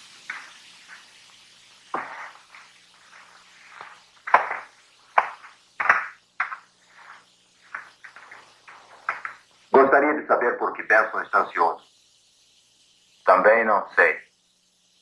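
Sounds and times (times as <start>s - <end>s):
faint steam hiss: 0.0s - 15.0s.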